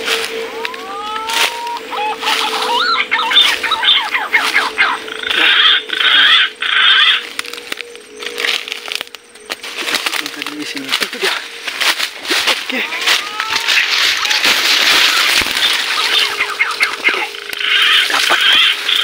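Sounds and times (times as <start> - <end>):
birds calling: 0.0 - 19.0
steady hum: 0.0 - 19.0.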